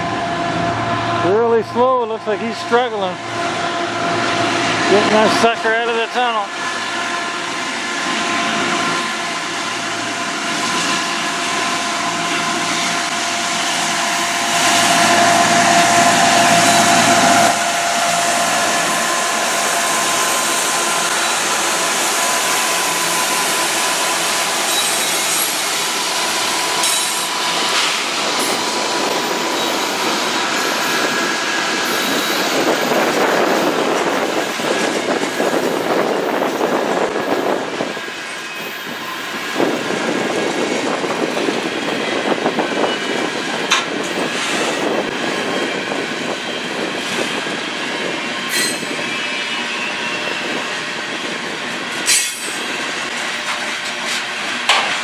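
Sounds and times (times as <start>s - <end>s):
diesel locomotives working hard: 0.0s - 55.0s
freight cars rolling on rails: 7.6s - 55.0s.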